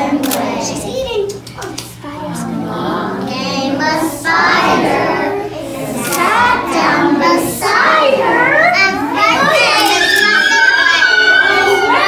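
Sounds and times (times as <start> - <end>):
children chanting in unison: 2.3 - 12.0.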